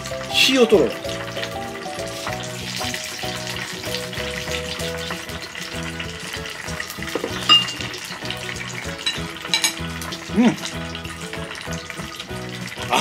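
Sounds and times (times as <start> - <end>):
food frying in hot oil: 0.0 - 13.0
soft background music: 0.0 - 13.0.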